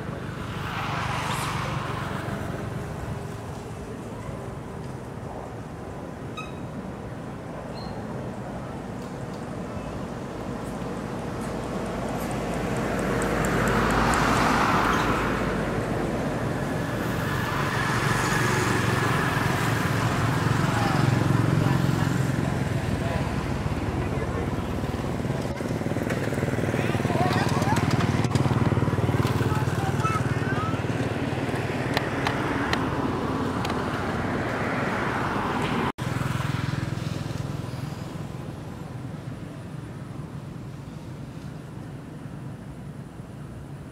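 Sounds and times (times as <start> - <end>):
low traffic rumble: 0.0 - 43.9
passing vehicle tyre noise: 0.0 - 43.9.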